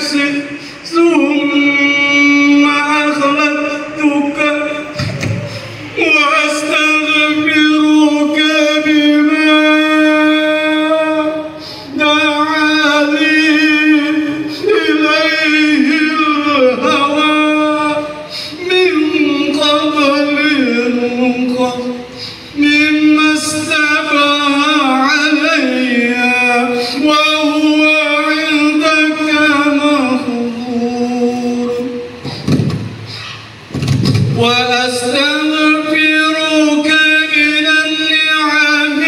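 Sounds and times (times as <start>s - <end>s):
man chanting a prayer: 0.0s - 32.3s, 34.2s - 39.0s.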